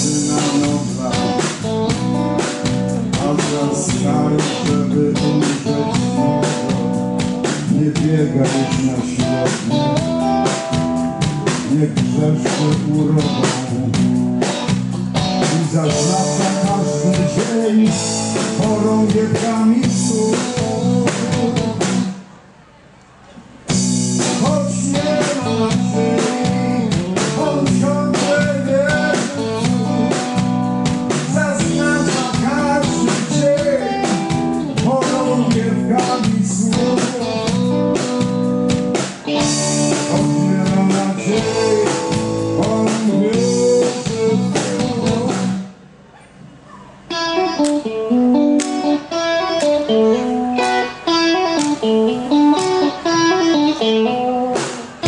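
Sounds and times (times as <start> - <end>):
bass guitar: 0.0 - 22.2, 23.7 - 45.9, 47.1 - 55.0
electric guitars: 0.0 - 22.2, 23.7 - 45.7, 47.1 - 55.0
drum kit: 0.0 - 22.3, 23.6 - 45.9, 47.1 - 55.0.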